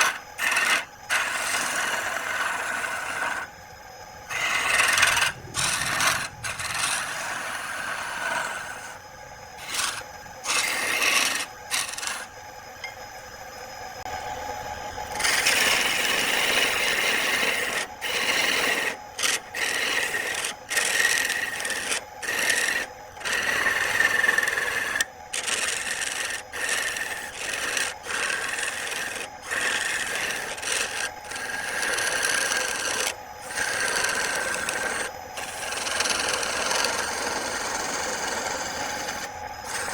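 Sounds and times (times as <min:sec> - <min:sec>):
tool scraping wood on a lathe: 0:00.0 - 0:03.6, 0:04.3 - 0:12.4, 0:15.1 - 0:39.9.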